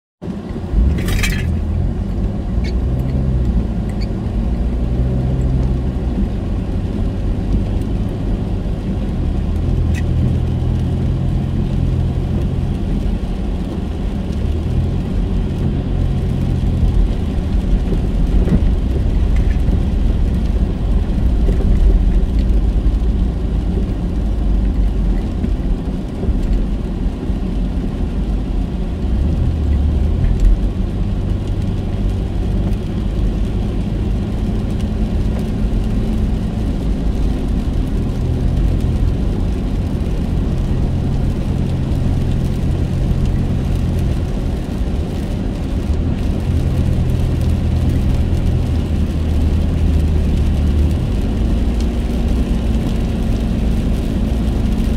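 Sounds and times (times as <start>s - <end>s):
car driving on wet road: 0.2s - 54.9s.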